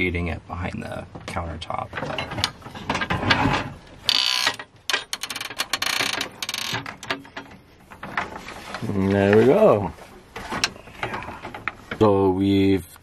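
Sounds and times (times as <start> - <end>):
cables rattling and scraping: 0.6 - 13.0.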